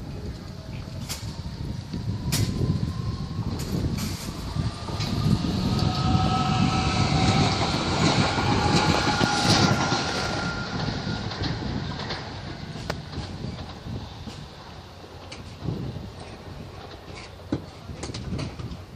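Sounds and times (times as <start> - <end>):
train wheels rumbling on rails: 0.0 - 18.9
train whine: 0.0 - 18.9.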